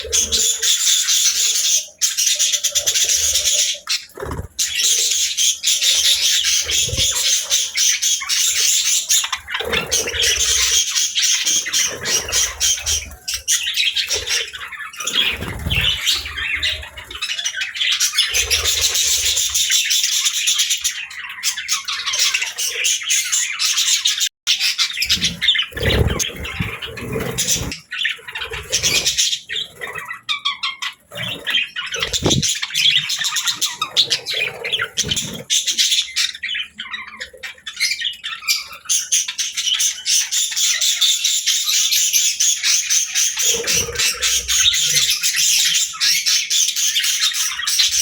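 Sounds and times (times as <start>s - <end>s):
budgerigars chattering: 0.0s - 48.0s.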